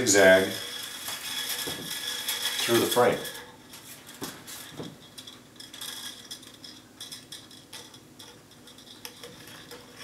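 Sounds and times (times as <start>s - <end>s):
wire scraping against wood: 0.0s - 10.0s.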